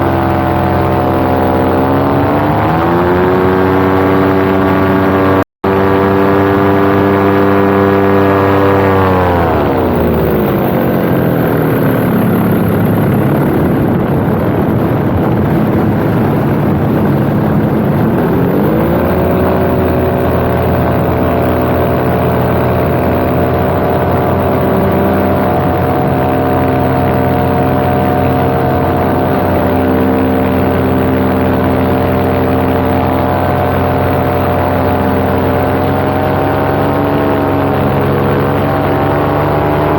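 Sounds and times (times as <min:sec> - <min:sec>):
paramotor engine and propeller: 0:00.0 - 0:39.9
wind on microphone: 0:00.0 - 0:39.9.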